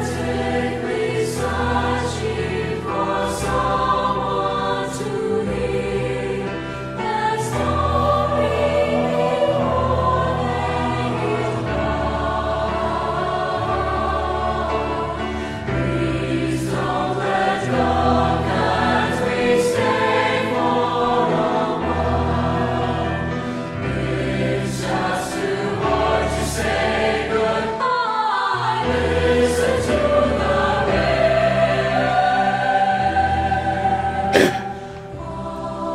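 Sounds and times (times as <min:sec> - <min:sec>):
choir singing slow song: 0:00.0 - 0:35.9.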